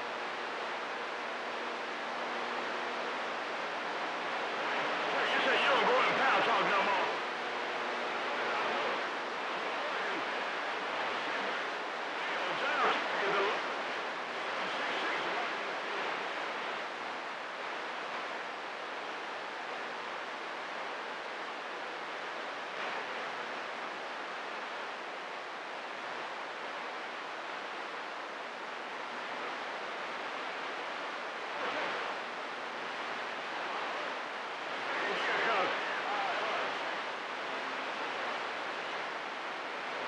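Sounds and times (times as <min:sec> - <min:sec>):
radio static hiss: 0:00.0 - 0:40.0.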